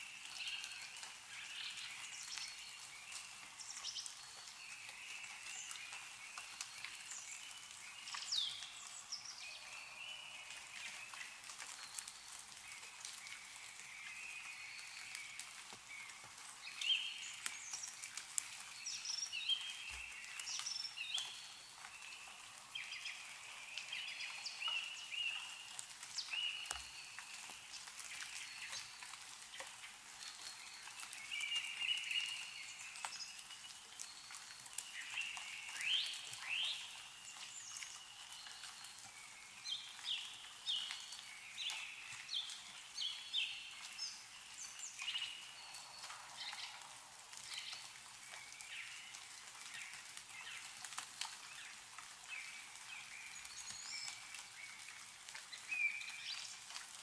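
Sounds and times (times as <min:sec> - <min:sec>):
meltwater dripping: 0:00.0 - 0:57.0
small birds chirping: 0:00.0 - 0:57.0.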